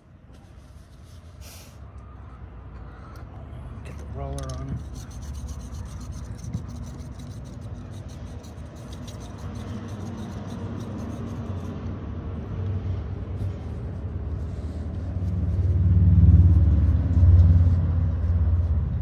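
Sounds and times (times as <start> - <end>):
steady low rumble: 2.2 - 19.0.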